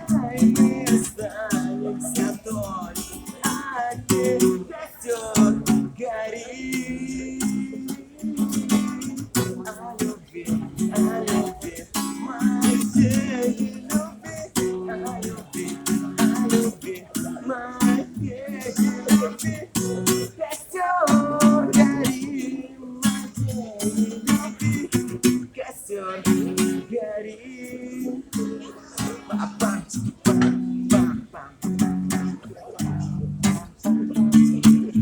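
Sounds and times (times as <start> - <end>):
acoustic guitar strumming: 0.0 - 35.0
person's voice: 0.0 - 35.0.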